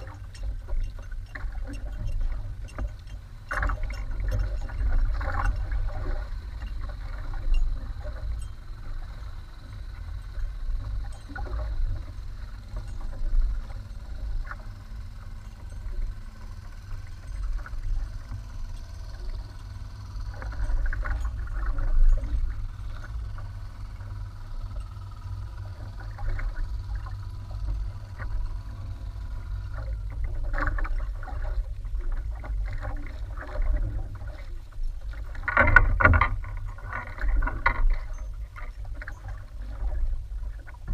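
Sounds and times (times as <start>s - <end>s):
steady low rumble: 0.0s - 40.9s
water sloshing against boat hull: 0.0s - 40.9s.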